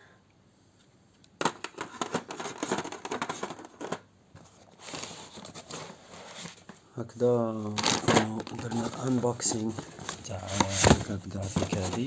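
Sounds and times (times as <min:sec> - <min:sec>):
plastic packaging rustling: 0:01.4 - 0:12.0.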